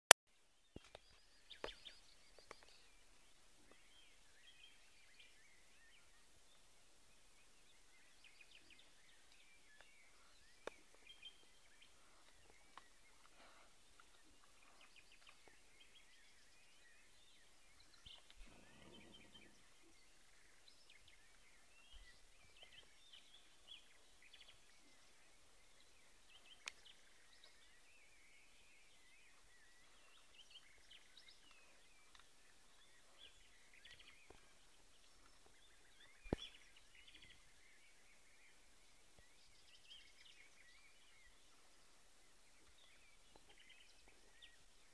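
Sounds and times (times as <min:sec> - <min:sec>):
small birds chirping: 0:00.4 - 0:44.9.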